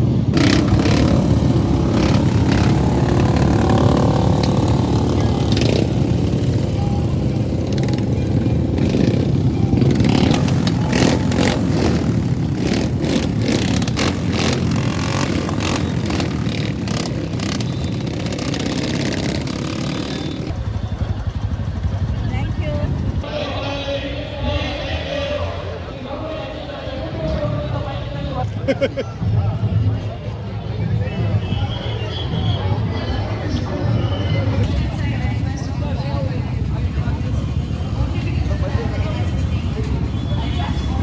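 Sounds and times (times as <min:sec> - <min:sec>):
motorcycle engines revving: 0:00.0 - 0:23.4, 0:24.3 - 0:41.0.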